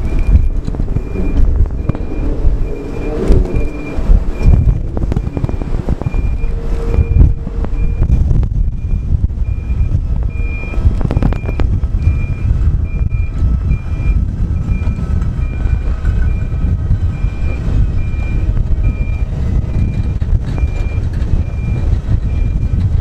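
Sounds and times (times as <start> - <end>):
high warning beeps: 0.0 - 22.8
low engine rumble: 0.0 - 23.0.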